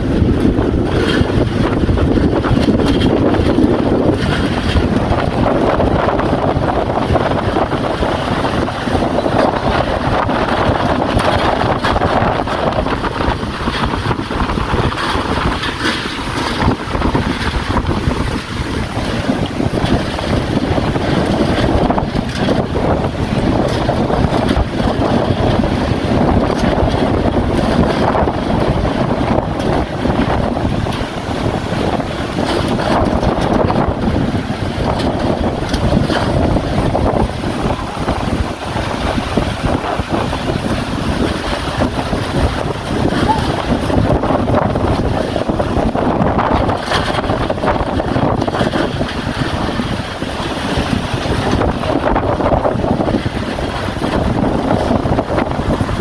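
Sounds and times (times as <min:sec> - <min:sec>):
rain: 0:00.0 - 0:56.0
wind buffeting microphone: 0:00.0 - 0:56.0.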